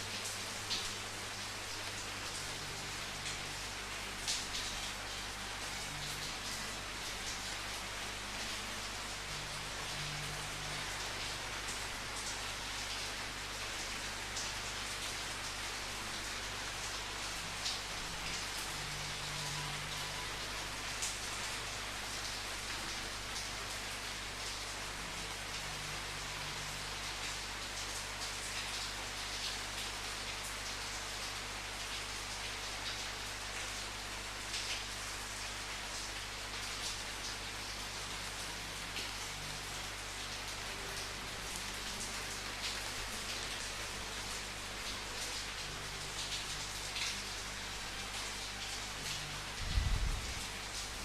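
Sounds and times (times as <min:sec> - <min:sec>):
raindrops ticking on a surface: 0:00.0 - 0:51.0
steady rain falling: 0:00.0 - 0:51.0.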